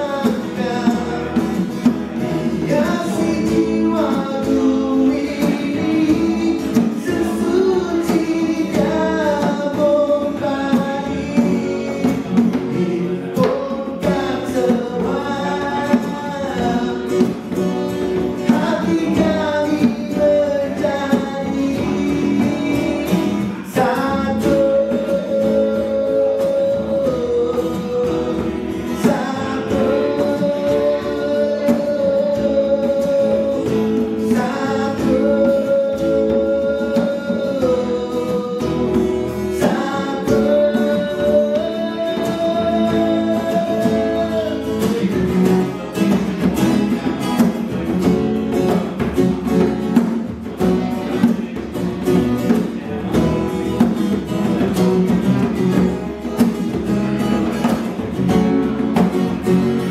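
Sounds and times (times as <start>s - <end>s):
man singing into microphone: 0.0s - 50.0s
djembe drumming: 0.0s - 59.9s
strummed acoustic guitar: 0.0s - 59.9s.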